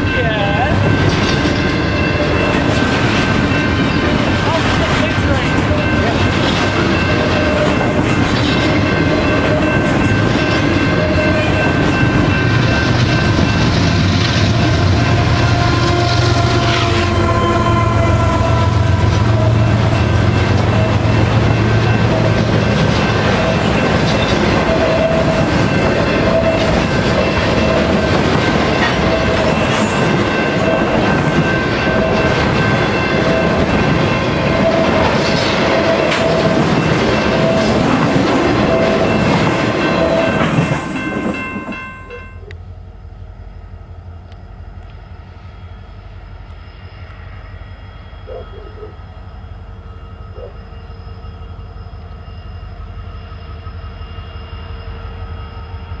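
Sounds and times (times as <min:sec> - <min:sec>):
distant train rumble: 0:00.0 - 0:56.0
freight train wheels rumbling: 0:00.0 - 0:56.0.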